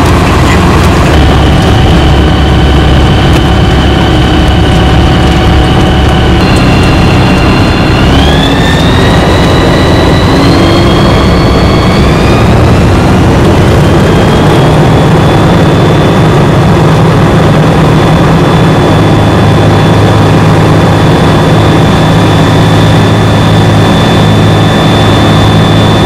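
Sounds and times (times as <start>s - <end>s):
light aircraft engine droning: 0.0s - 26.0s.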